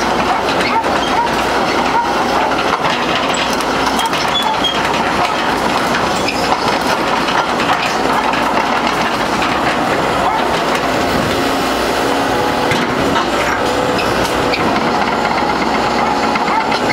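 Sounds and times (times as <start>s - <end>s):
rattling clatter: 0.0s - 11.5s, 12.6s - 16.9s
excavator diesel engine running: 0.0s - 16.9s.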